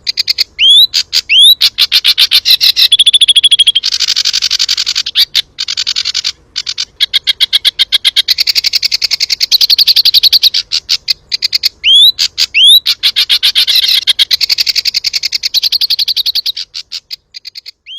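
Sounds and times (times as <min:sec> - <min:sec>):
bird trilling song: 0:00.0 - 0:17.9.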